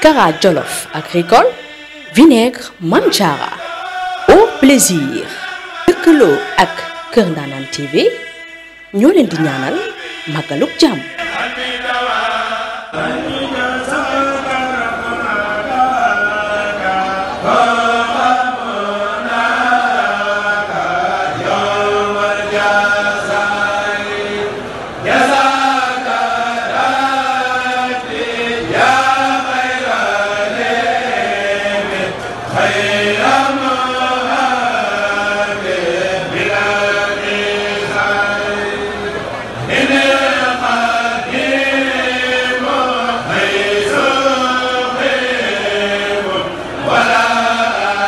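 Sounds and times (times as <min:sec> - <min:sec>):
men chanting in unison: 0:00.0 - 0:48.0.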